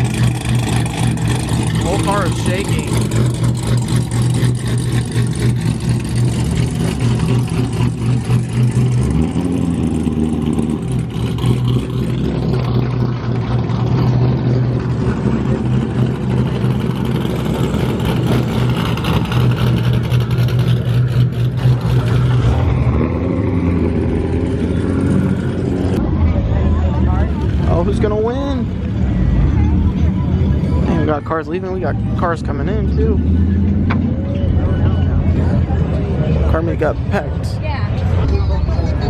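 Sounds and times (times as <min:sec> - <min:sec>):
car engine rough idling: 0:00.0 - 0:39.0.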